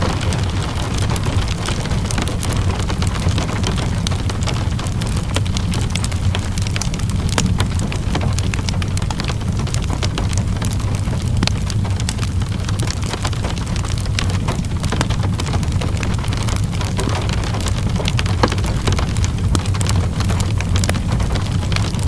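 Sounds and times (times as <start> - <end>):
low rumble: 0.0 - 22.0
steady rain: 0.0 - 22.0
wood fire crackling: 0.0 - 22.0.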